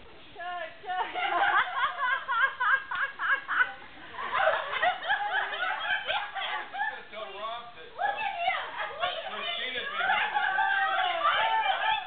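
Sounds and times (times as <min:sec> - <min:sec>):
group of people laughing: 0:00.9 - 0:07.1, 0:08.4 - 0:12.0.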